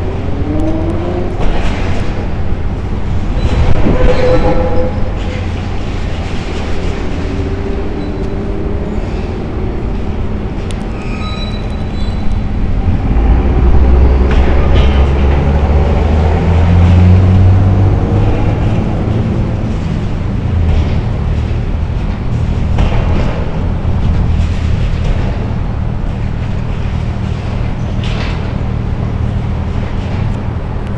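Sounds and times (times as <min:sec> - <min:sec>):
excavator diesel engine rumble: 0:00.0 - 0:30.9.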